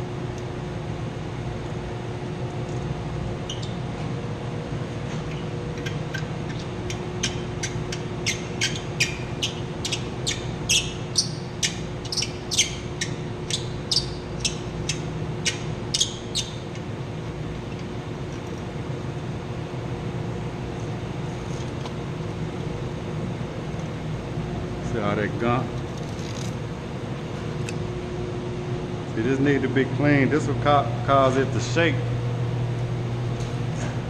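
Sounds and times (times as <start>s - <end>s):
machinery humming: 0.0s - 34.0s.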